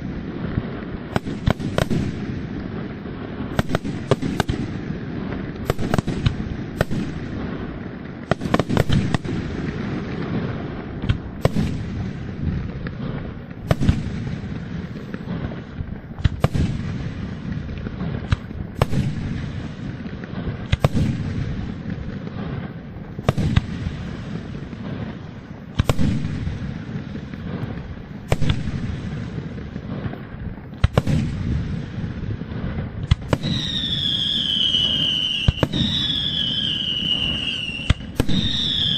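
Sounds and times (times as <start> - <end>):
fireworks sharp bangs: 0.0 - 38.9
low rumble of booms and crackle: 0.0 - 38.9.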